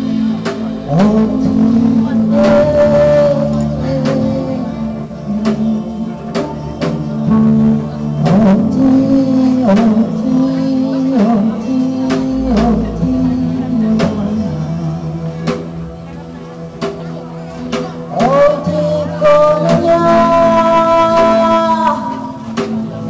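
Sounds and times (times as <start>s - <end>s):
live band music: 0.0s - 23.0s.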